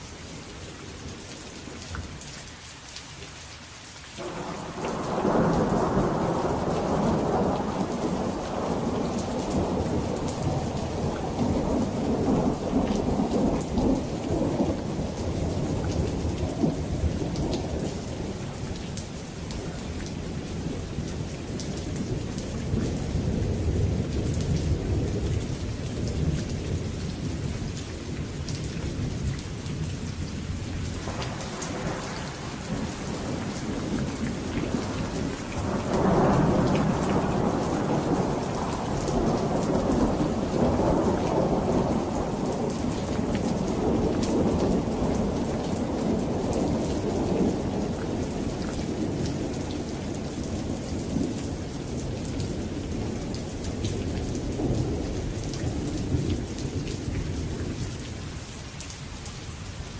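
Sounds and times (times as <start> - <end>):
steady rain: 0.0 - 59.9
rolling thunder: 4.2 - 18.8, 20.2 - 57.7.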